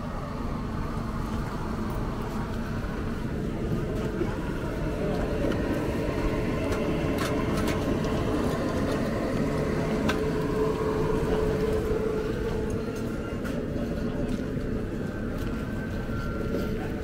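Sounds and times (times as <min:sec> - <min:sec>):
low mechanical rumble and hum: 0:00.0 - 0:17.0.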